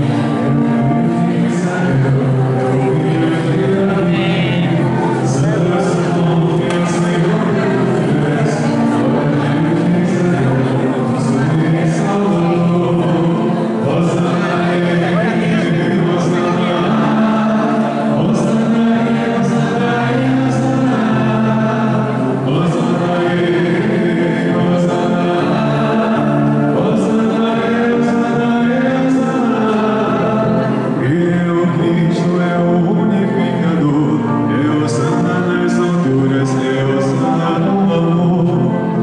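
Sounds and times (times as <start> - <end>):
congregation singing a hymn: 0.0 - 39.0.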